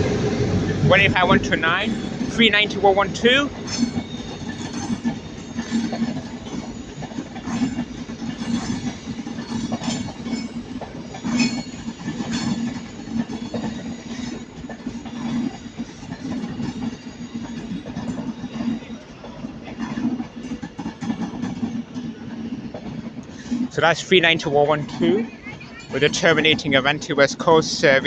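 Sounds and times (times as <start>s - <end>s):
electric train low hum: 0.0s - 28.0s
train wheels clicking over rail joints: 0.0s - 28.0s.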